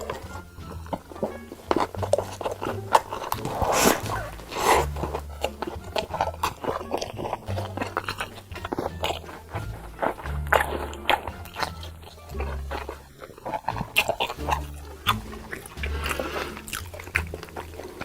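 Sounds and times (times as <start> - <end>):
background music with bass: 0.0 - 18.0
person chewing food: 0.0 - 18.0.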